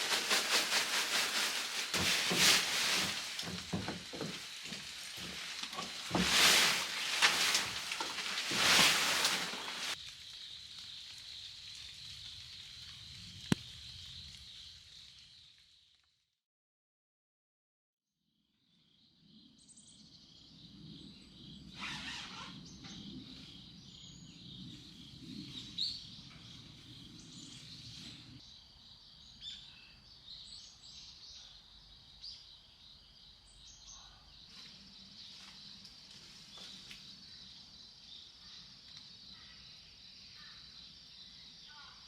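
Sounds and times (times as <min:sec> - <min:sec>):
insect chorus: 0:00.0 - 0:15.6, 0:18.8 - 0:42.0.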